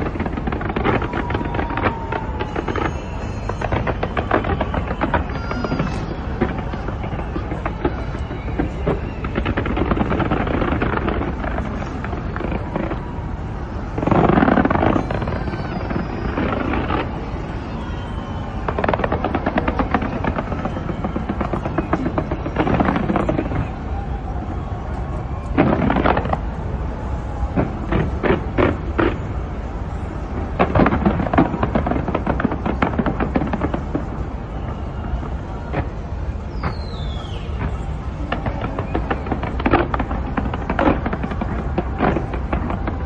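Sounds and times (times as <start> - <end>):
fireworks bangs: 0.0 - 43.0
fireworks crackling: 0.0 - 43.0.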